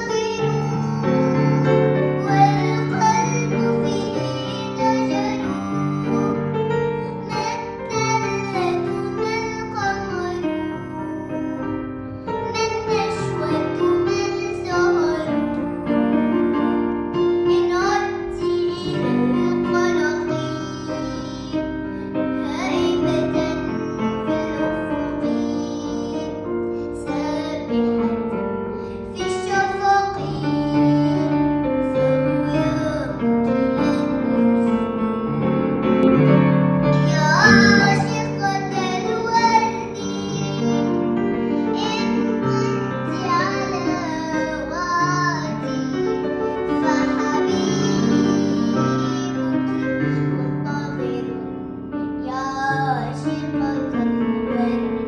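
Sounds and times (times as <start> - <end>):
girl singing: 0.0 - 35.4, 36.8 - 55.0
keyboard chords: 0.0 - 55.0.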